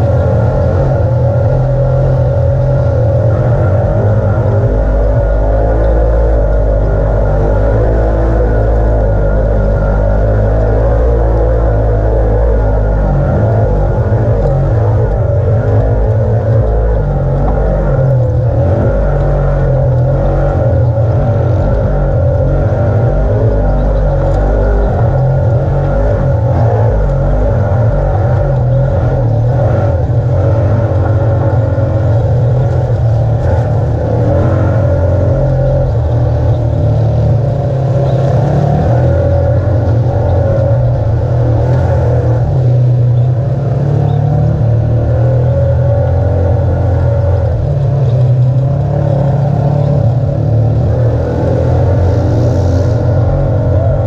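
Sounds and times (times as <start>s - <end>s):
vehicle engine running under load: 0.0s - 54.0s.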